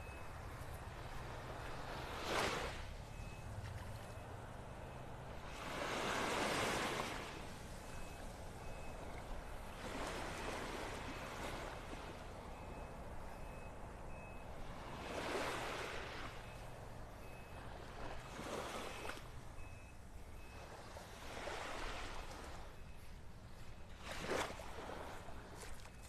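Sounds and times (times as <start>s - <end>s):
faint high beeping: 0.0s - 2.0s, 2.8s - 21.1s, 21.9s - 24.2s, 25.5s - 26.0s
waves washing onto beach: 0.0s - 13.2s, 14.5s - 16.6s, 17.4s - 19.7s, 20.5s - 26.0s.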